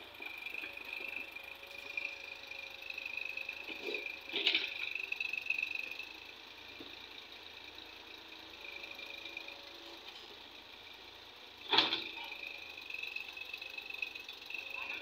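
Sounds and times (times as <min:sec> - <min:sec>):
excavators digging soil: 0:00.0 - 0:15.0
high-pitched whine: 0:00.0 - 0:15.0
tractor engines running: 0:00.0 - 0:15.0.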